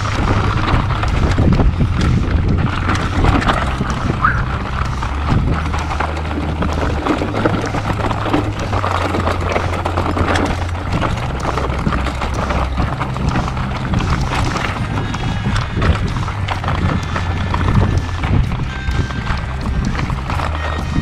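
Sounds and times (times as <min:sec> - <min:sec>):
background music with bass line: 0:00.0 - 0:21.0
clicking rhythm: 0:00.0 - 0:21.0.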